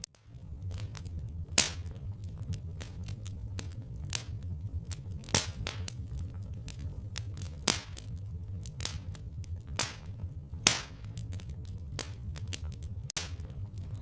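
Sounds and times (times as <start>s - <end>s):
steady low rumble: 0.0s - 14.0s
wood fire crackling and popping: 0.0s - 14.0s.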